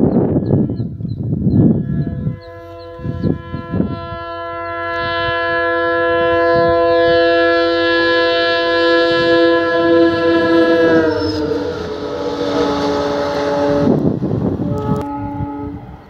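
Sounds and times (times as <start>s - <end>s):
train horn long note: 1.7s - 16.0s.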